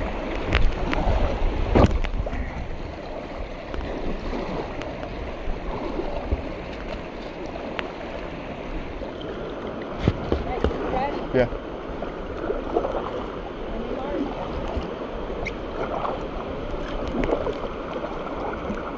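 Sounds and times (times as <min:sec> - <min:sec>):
paddle strokes splashing: 0:00.0 - 0:18.9
river current rushing: 0:00.0 - 0:18.9.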